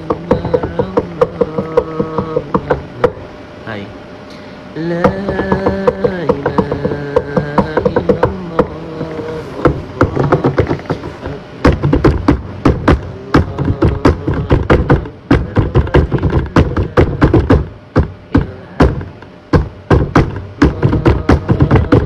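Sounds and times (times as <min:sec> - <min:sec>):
hands tapping on desk: 0:00.0 - 0:03.2, 0:05.0 - 0:22.0.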